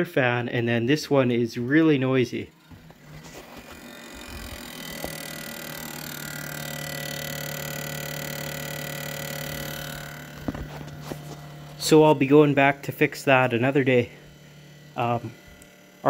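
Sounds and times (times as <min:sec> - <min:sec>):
cooling fan whirring: 0:00.2 - 0:16.0
low hum: 0:02.3 - 0:16.0.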